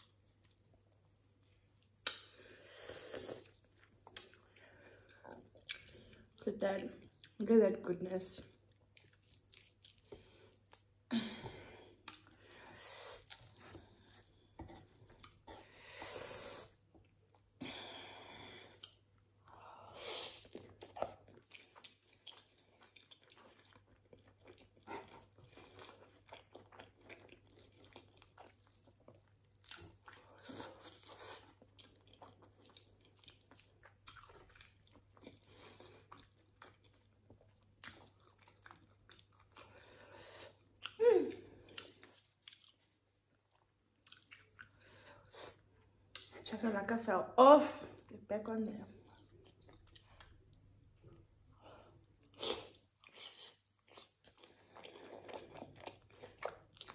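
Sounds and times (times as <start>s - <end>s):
person chewing meat: 0.0s - 6.4s, 7.0s - 7.4s, 8.6s - 11.1s, 11.8s - 16.0s, 16.6s - 19.5s, 20.3s - 46.4s, 49.0s - 56.9s.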